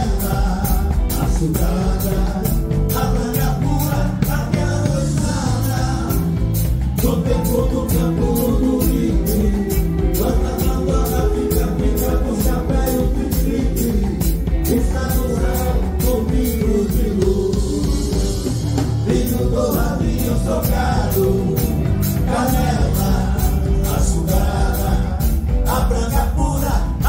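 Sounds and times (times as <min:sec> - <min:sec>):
men singing into microphones: 0:00.0 - 0:27.0
orchestra and band playing: 0:00.0 - 0:27.0.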